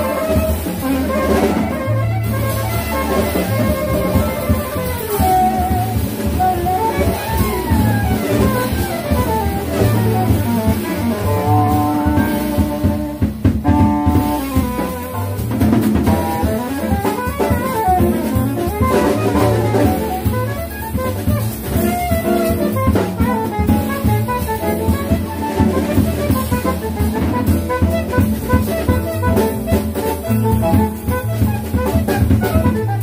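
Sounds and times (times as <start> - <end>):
drum kit: 0.0 - 33.0
piano: 0.0 - 33.0
saxophone: 0.0 - 33.0
walking upright bass: 0.0 - 33.0.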